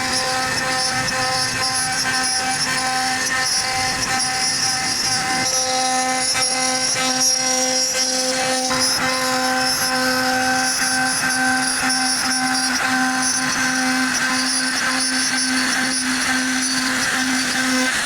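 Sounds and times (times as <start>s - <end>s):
router spindle whining carving wood: 0.0s - 18.0s.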